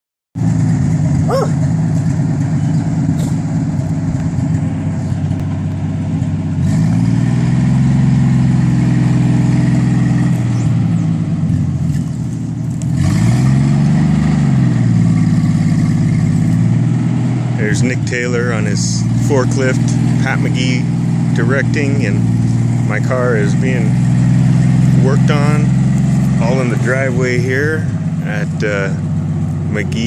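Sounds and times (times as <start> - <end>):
forklift engine revving: 0.4 - 30.0.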